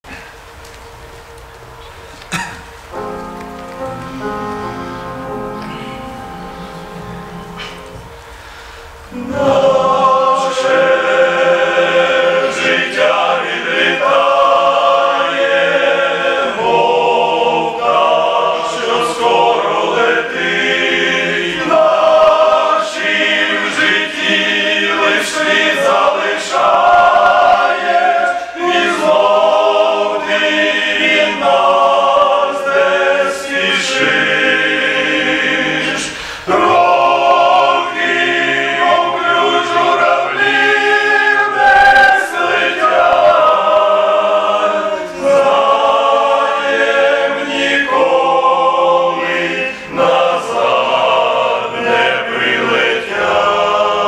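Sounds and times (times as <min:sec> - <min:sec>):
men's choir singing a hymn: 0:02.3 - 0:54.0.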